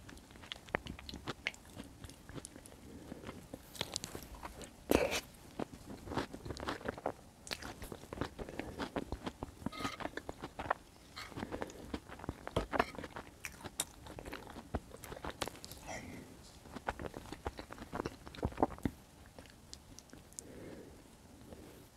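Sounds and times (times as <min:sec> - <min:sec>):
chewing with wet mouth clicks: 0:00.0 - 0:15.8, 0:16.6 - 0:20.5.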